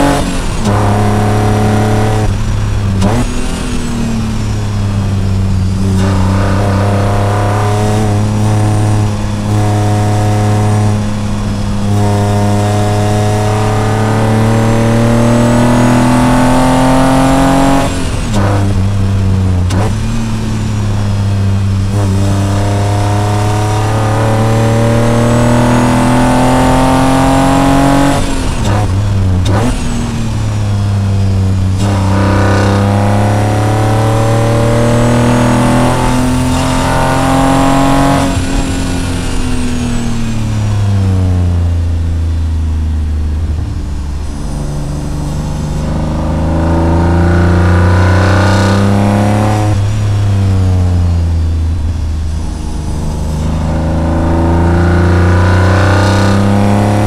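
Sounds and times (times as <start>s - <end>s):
car engine revving through gears: 0.0s - 57.0s.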